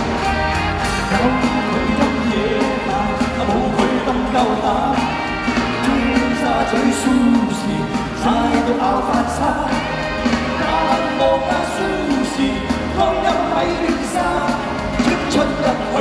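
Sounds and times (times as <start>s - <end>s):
live band playing pop song: 0.0s - 16.0s
man singing: 1.0s - 16.0s.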